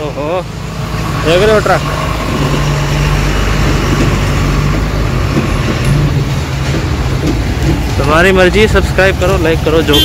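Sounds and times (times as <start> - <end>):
road traffic noise: 0.0 - 10.0
truck engine running: 0.0 - 10.0.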